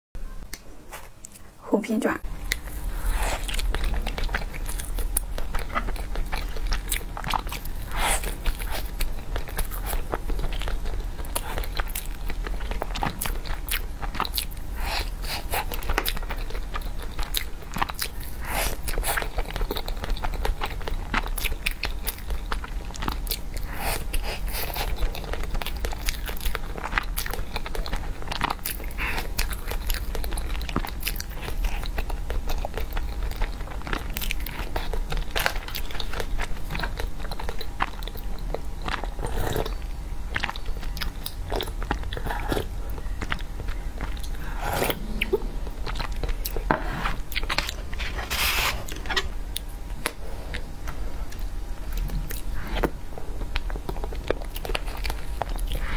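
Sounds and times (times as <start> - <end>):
person chewing with mouth clicks: 2.3 - 48.1, 48.8 - 55.9.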